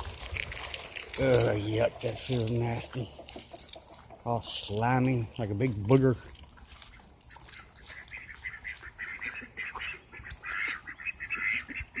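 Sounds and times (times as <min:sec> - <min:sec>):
chickens squawking and clucking: 0:00.0 - 0:05.2, 0:06.6 - 0:12.0.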